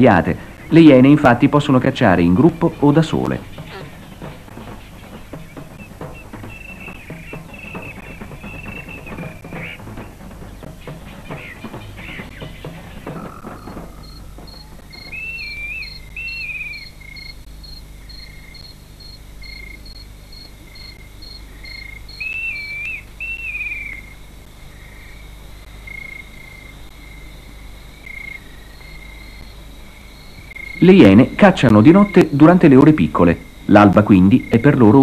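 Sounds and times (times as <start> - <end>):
loud whistled calls: 0.0 - 18.8, 20.8 - 24.2, 28.1 - 35.0
insect chirping in high pulses: 0.0 - 35.0.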